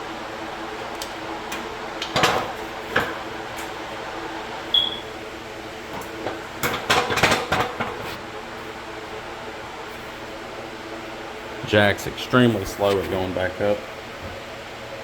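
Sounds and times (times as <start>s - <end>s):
shop fan humming: 0.0s - 15.0s.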